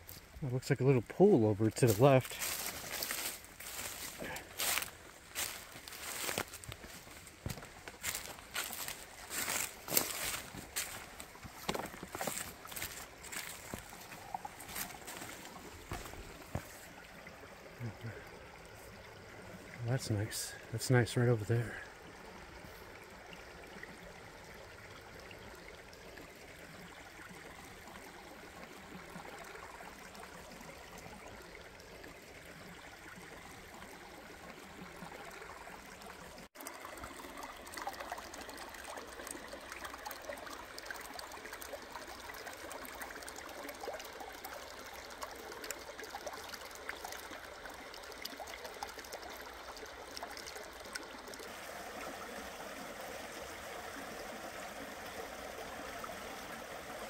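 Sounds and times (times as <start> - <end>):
small water splashes: 0.0 - 57.0
stream babbling over rocks: 0.0 - 57.0.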